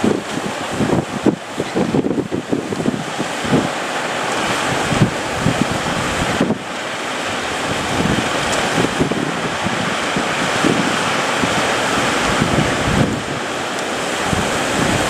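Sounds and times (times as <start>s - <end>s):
loud surf: 0.0s - 15.0s
wind buffeting microphone: 0.0s - 15.0s.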